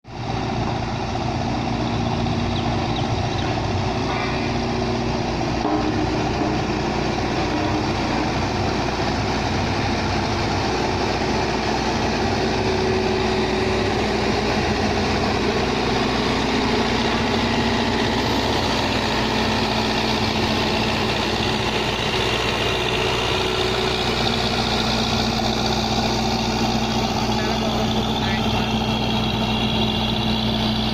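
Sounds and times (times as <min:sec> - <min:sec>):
road roller diesel engine: 0:00.0 - 0:30.9.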